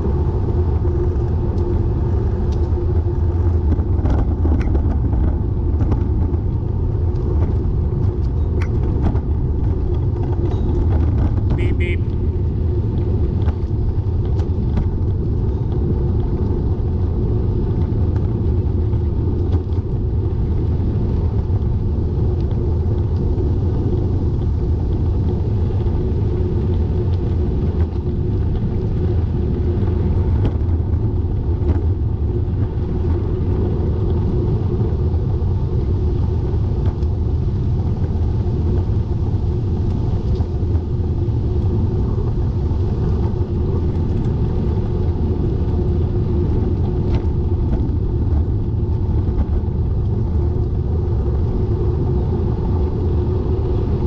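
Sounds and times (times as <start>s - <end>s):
road noise: 0.0s - 54.0s
wind on microphone: 0.0s - 54.0s.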